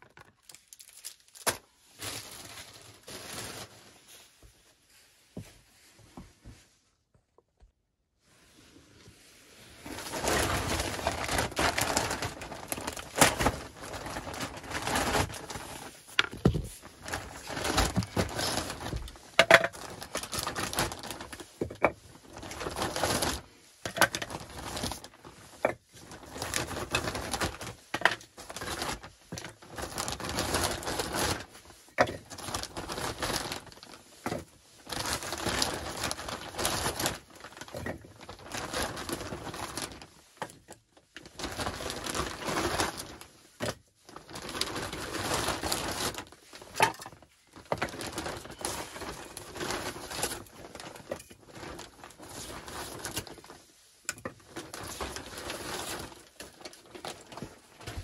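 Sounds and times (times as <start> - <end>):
plastic sack rustling: 0.0 - 5.1, 8.4 - 58.0.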